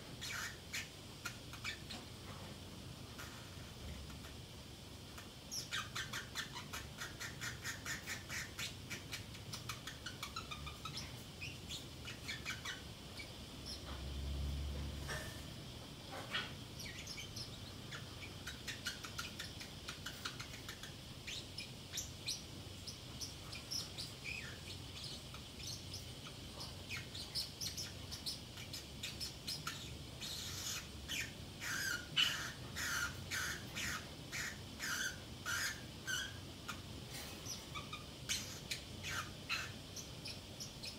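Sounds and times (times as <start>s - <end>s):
parrotlet chirping: 0.0s - 2.2s, 2.9s - 40.9s.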